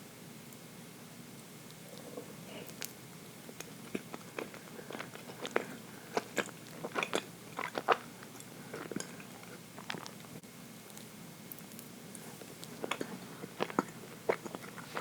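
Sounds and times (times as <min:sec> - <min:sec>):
person chewing cake: 0:01.7 - 0:15.0.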